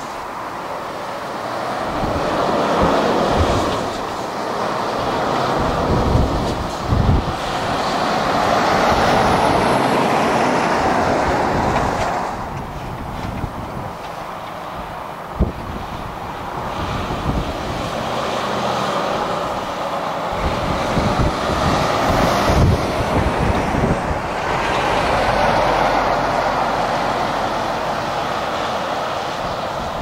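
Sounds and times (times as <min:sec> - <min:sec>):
lorry engine and tyre noise: 0:00.0 - 0:30.0.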